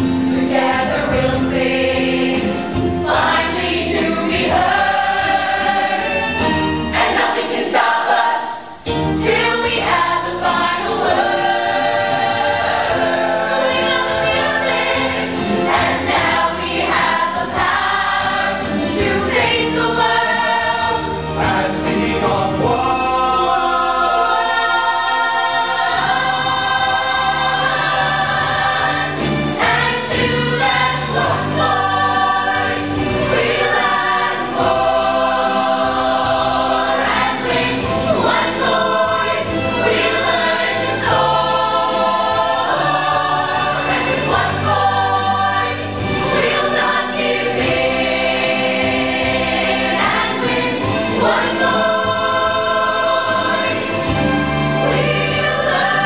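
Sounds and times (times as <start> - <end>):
choir singing in parts: 0.0 - 56.0.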